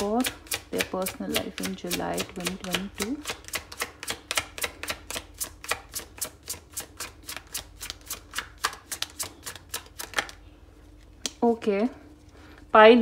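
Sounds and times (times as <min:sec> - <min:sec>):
cards being shuffled: 0:00.0 - 0:11.5.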